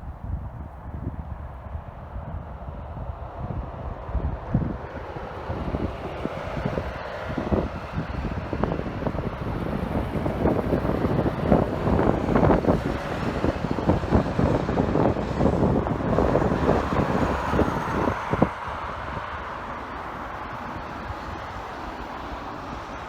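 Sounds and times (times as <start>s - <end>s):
wind buffeting microphone: 0.0s - 23.0s
jet airliner passing: 0.9s - 23.0s.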